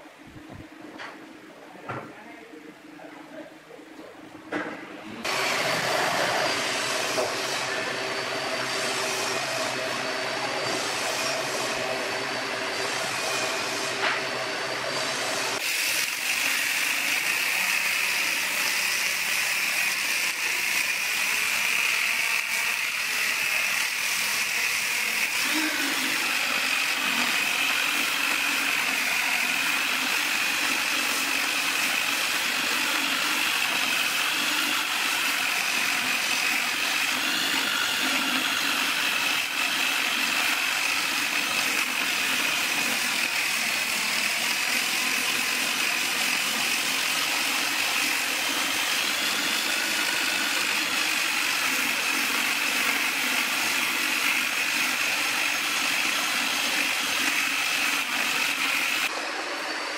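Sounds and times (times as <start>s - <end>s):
motor hum with fixed tones: 4.5s - 59.9s
electric drill whine: 5.2s - 59.9s.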